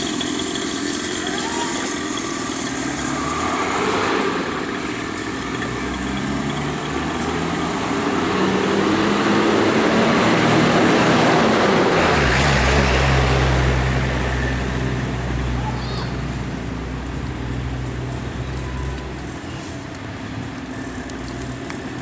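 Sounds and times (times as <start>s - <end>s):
motocross bike engine revving: 0.0s - 19.6s.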